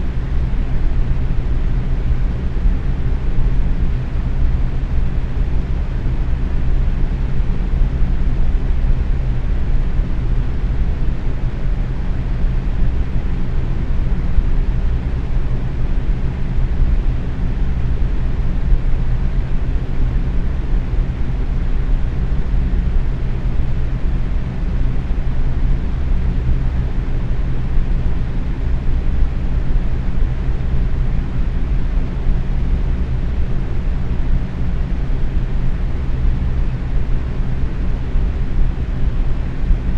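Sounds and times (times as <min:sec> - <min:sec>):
faint motor hum: 0:00.0 - 0:39.9.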